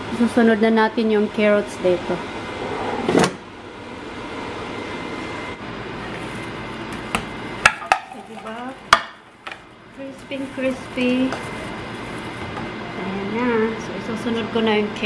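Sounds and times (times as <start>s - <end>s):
air fryer fan hiss: 0.0s - 15.0s.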